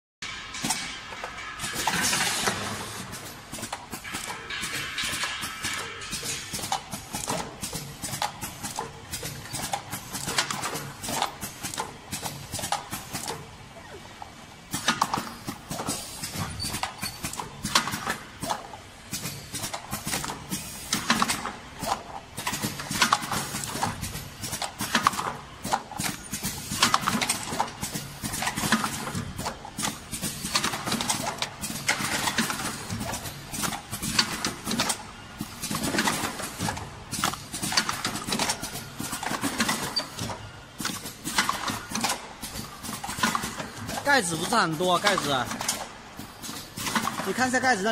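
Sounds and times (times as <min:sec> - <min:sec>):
machine clattering: 0:00.2 - 0:13.6, 0:14.3 - 0:47.9.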